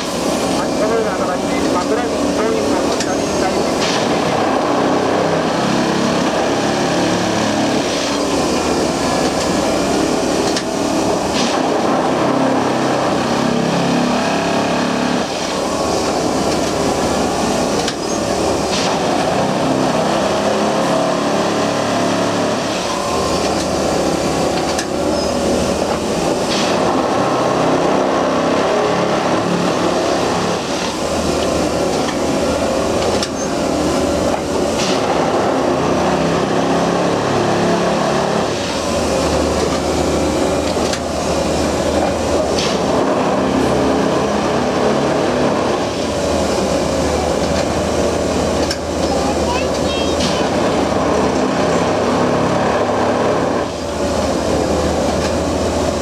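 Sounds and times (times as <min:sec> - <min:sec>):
track machine engine and hydraulics: 0:00.0 - 0:56.0.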